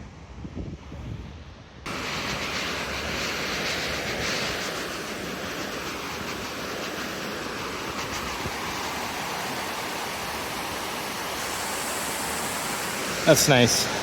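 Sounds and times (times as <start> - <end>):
waterfall rushing: 1.9 - 14.0.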